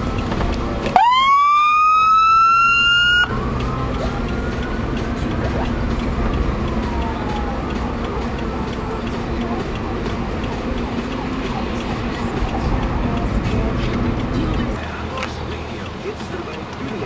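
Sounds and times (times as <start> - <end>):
car engine and road rumble: 0.0 - 17.0
police siren wailing: 0.0 - 17.0.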